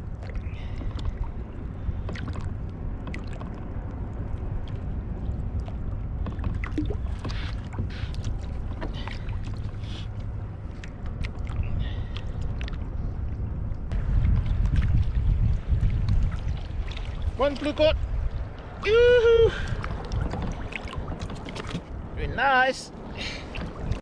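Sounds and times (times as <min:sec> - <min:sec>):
steady low rumble: 0:00.0 - 0:24.0
water lapping against kayak hull: 0:00.0 - 0:24.0.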